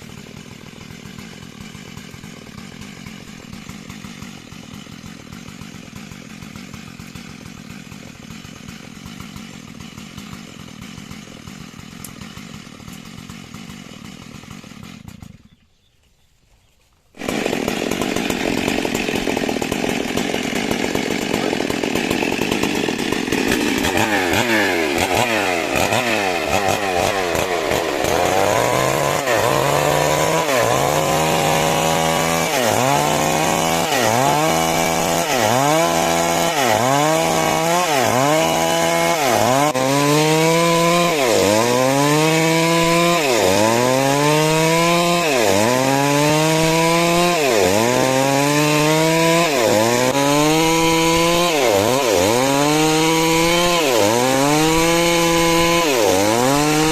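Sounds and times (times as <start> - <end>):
chainsaw cutting wood: 0.0 - 15.8, 17.1 - 56.9.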